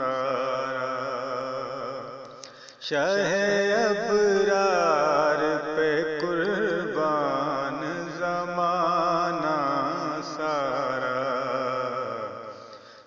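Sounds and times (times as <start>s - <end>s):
man singing devotional poem: 0.0s - 13.0s.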